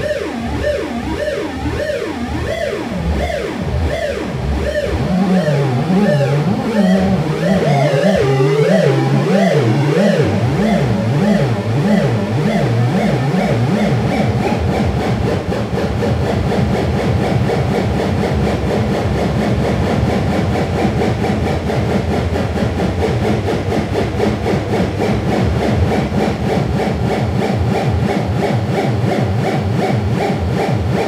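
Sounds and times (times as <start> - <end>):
buzzing noise music drone: 0.0 - 31.0.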